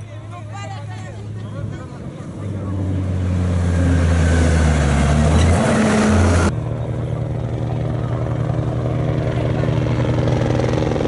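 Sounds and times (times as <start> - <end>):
engine with fast even pulse: 0.0 - 11.0
truck diesel engines running: 0.0 - 11.0.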